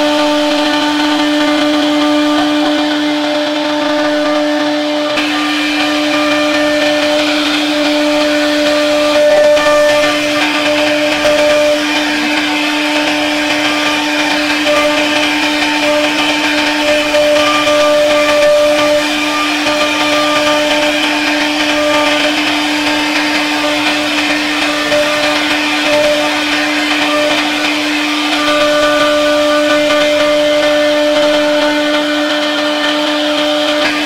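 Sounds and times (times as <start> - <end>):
router bit cutting wood: 0.0 - 34.0
router spindle humming: 0.0 - 34.0.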